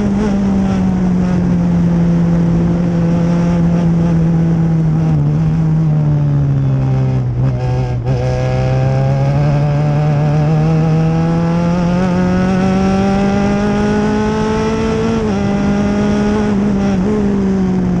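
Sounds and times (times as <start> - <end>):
race car engine revving: 0.0 - 18.0
wind and road noise: 0.0 - 18.0.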